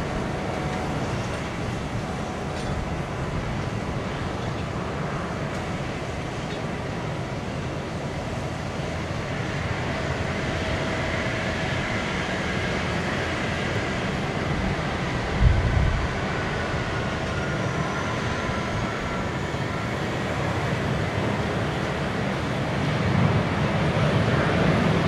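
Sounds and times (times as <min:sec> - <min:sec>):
aircraft rumble and hiss: 0:00.0 - 0:25.0.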